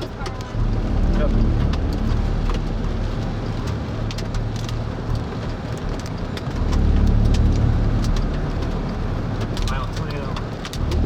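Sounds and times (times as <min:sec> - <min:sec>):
rain ticking on a car: 0:00.0 - 0:11.0
wind and vehicle noise: 0:00.0 - 0:11.0.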